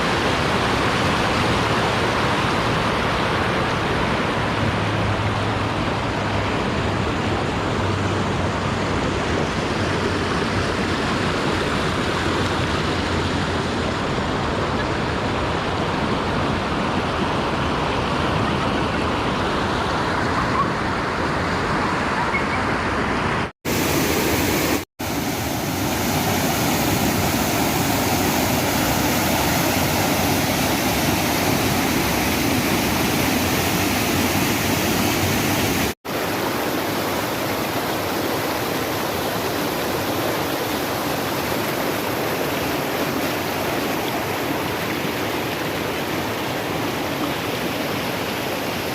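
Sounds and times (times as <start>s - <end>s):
waterfall and river rushing: 0.0s - 48.9s.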